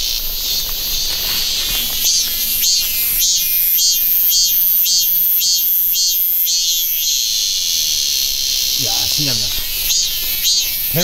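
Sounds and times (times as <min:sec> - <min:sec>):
cicada buzzing: 0:00.0 - 0:11.0
steady high hiss: 0:00.0 - 0:11.0.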